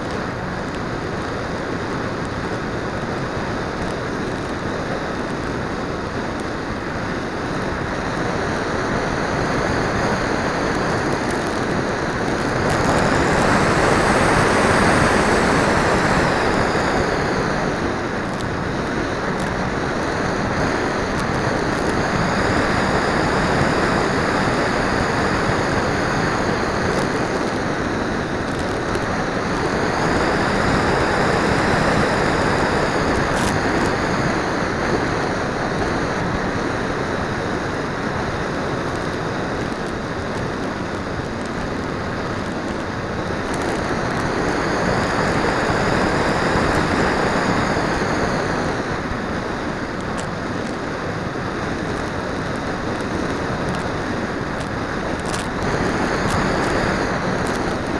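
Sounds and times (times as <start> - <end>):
faint motor and propeller whine: 0.0 - 57.9
wind rushing over microphone: 0.0 - 57.9.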